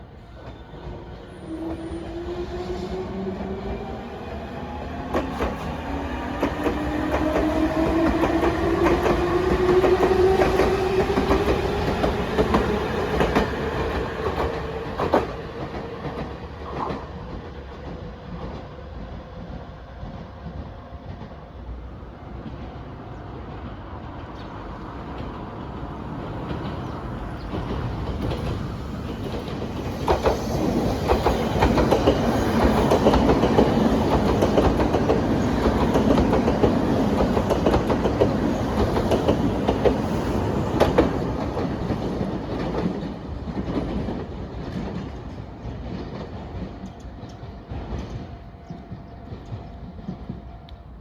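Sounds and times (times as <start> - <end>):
electric train passing: 0.0 - 51.0.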